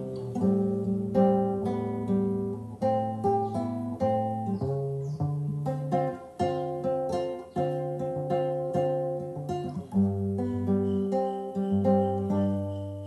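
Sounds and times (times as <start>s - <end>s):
acoustic guitar picked chords: 0.0s - 13.0s.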